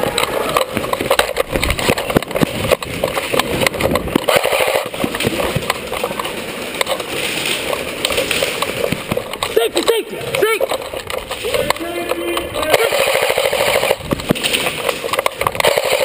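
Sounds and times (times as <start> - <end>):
running footsteps on concrete: 0.0 - 15.6
gear knocking and rattling: 0.0 - 16.0.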